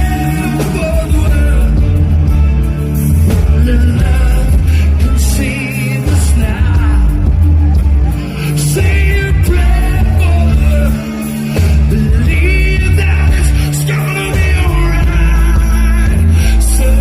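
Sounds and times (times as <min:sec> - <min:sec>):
heavy bass line: 0:00.0 - 0:17.0
live reggae band: 0:00.0 - 0:17.0.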